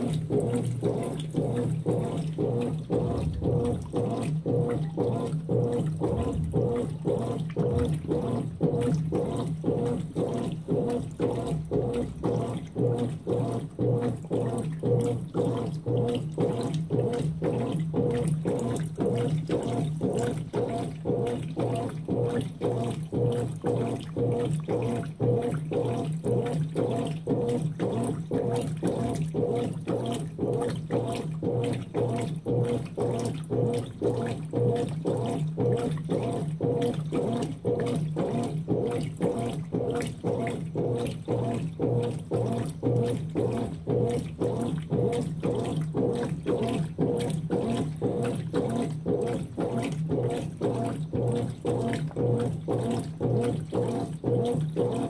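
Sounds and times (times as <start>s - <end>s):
washing machine motor hum: 0.0s - 55.0s
water sloshing in washing machine: 0.0s - 55.0s.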